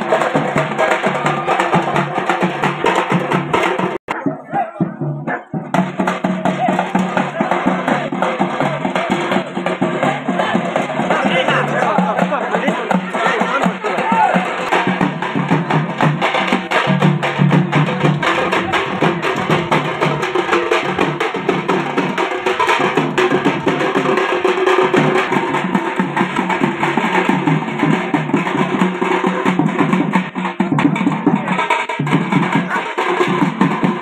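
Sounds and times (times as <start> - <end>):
frame drums beaten fast: 0.0 - 34.0.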